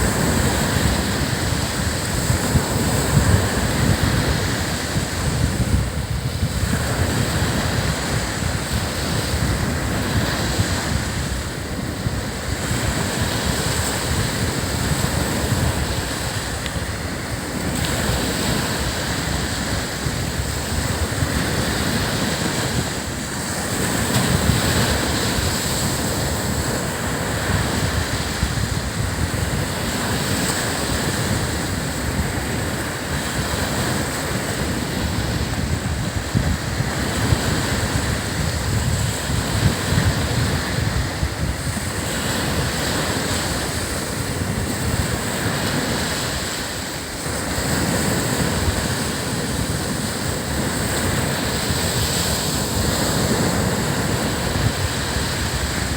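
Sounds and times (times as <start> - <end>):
ocean waves breaking on beach: 0.0 - 55.9
wind buffeting microphone: 0.0 - 55.9.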